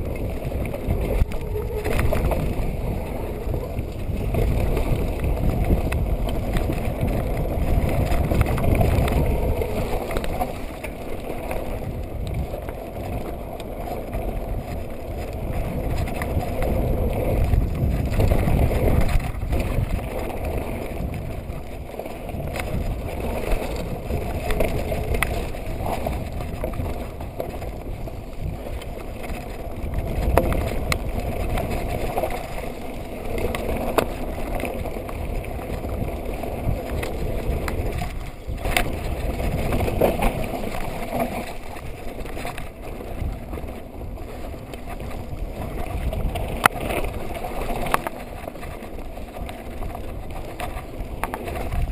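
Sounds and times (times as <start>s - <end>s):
bike knocking and rattling: 0.0s - 51.9s
tyres rumbling on dirt: 0.0s - 51.9s
wind on microphone: 0.0s - 51.9s.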